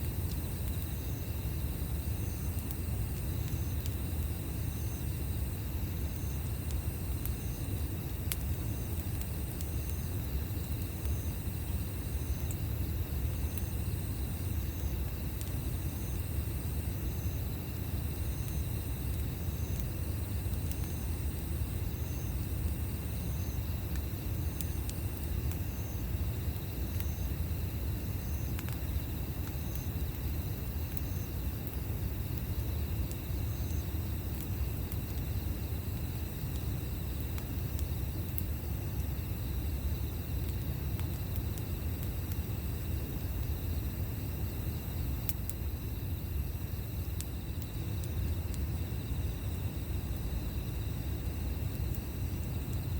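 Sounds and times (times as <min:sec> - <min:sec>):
campfire crackling: 0:00.0 - 0:52.9
insect chirping: 0:00.0 - 0:52.9.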